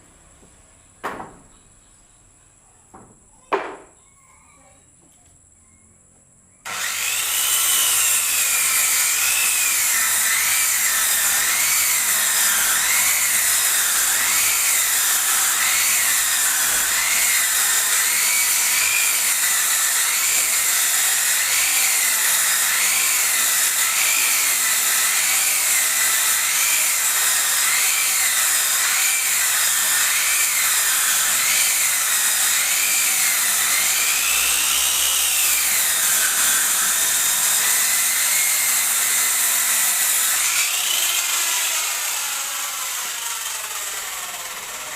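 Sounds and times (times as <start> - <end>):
circular saw ripping wood: 6.7 - 44.9.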